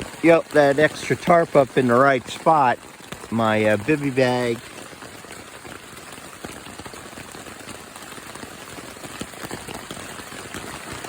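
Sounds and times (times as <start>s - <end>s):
rain on a tarp: 0.0s - 11.0s.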